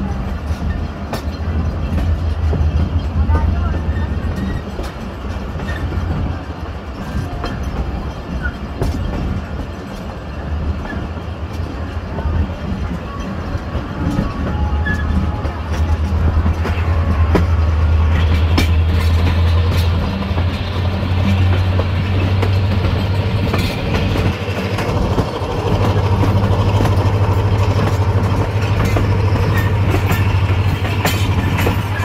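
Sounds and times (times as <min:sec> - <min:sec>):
train coaches rumbling: 0:00.0 - 0:32.0
wheels clicking over rail joints: 0:00.0 - 0:32.0.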